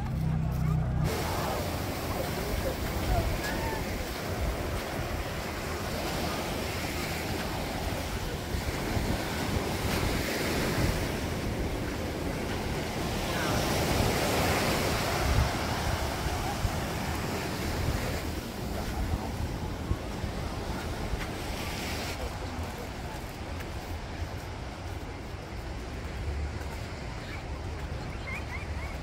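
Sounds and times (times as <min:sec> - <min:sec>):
wind gusting on microphone: 0:00.0 - 0:28.8
ocean surf breaking: 0:00.9 - 0:29.0.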